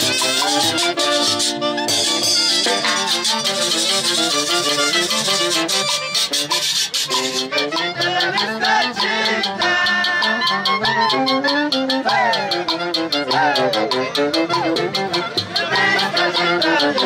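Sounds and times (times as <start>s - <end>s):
fast rattle-like beat: 0.0s - 17.0s
folk orchestra music: 0.0s - 17.0s.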